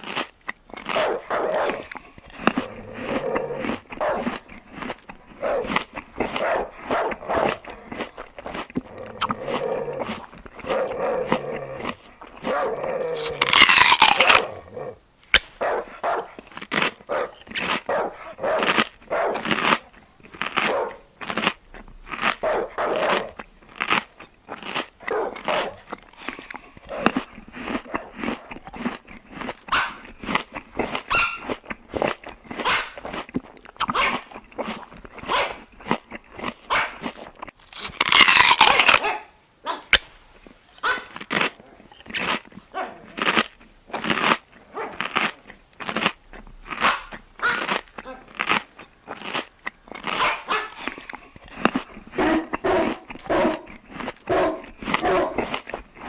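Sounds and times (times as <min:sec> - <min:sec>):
dog crunching food: 0:00.0 - 0:56.0.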